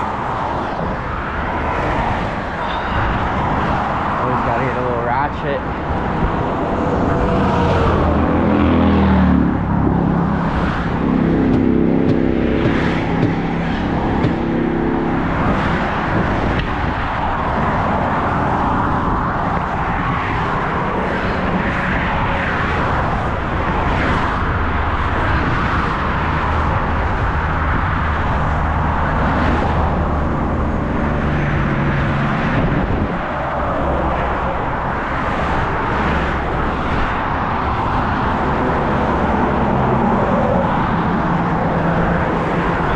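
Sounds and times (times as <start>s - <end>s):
car engine and road noise: 0.0s - 42.9s.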